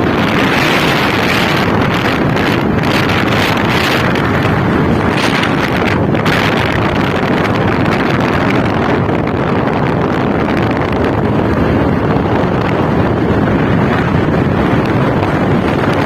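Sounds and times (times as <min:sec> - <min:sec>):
motorcycle engine: 0:00.0 - 0:16.0
road noise: 0:00.0 - 0:16.0
wind buffeting microphone: 0:00.0 - 0:16.0.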